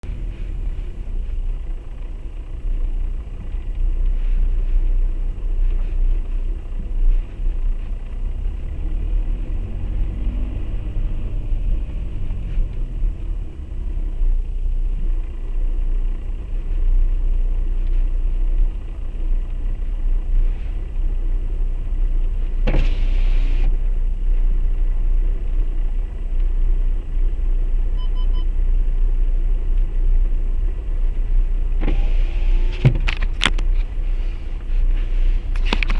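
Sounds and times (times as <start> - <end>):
diesel car engine rumbling: 0.0 - 35.9.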